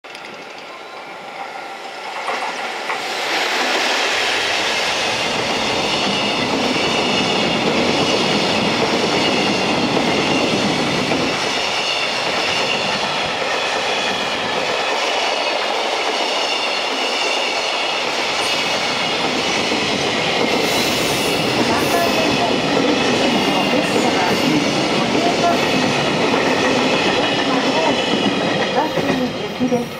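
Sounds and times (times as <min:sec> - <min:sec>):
freight train wheels on rail: 0:00.0 - 0:29.9.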